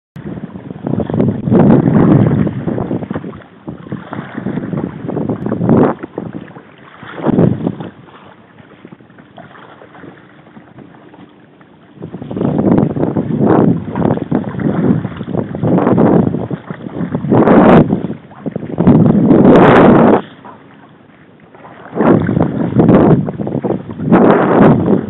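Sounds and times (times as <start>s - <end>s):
water slapping against kayak: 0.2s - 25.0s
wind buffeting microphone: 0.2s - 25.0s.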